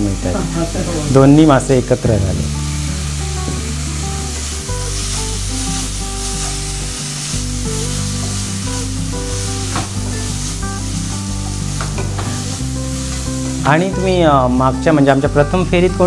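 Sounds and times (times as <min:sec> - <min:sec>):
prawns sizzling in a pan: 0:00.0 - 0:16.0.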